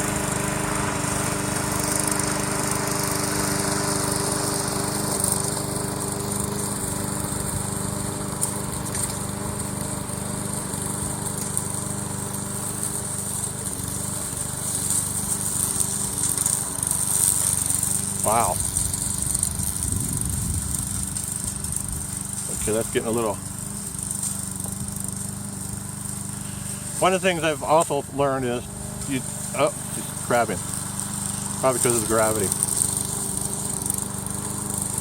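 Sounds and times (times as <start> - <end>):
lawn mower engine droning: 0.0 - 35.0.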